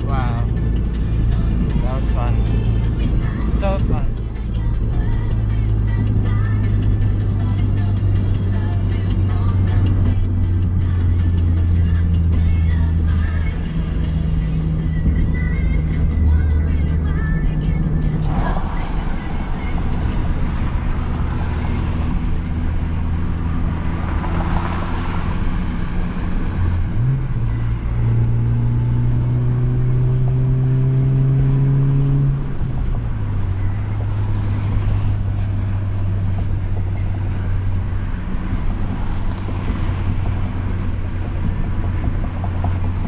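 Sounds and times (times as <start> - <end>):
car engine accelerating: 0.0 - 43.0
road noise: 0.0 - 43.0.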